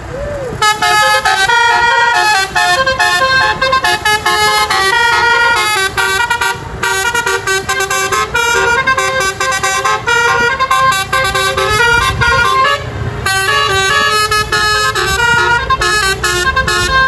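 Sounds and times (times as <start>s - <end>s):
multi-tone musical horn melody: 0.6s - 17.0s.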